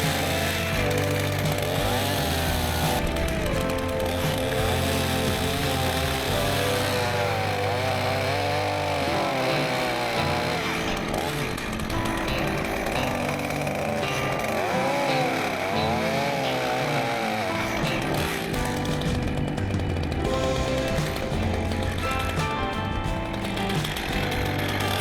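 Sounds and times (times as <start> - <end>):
background music: 0.0 - 25.0
chainsaw cutting: 0.0 - 25.0.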